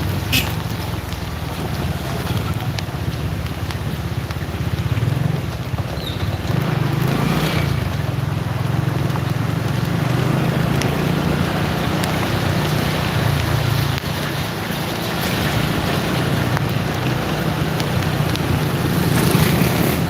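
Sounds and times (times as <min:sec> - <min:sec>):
heavy rain: 0:00.0 - 0:20.0
motorcycle engine: 0:00.0 - 0:20.0.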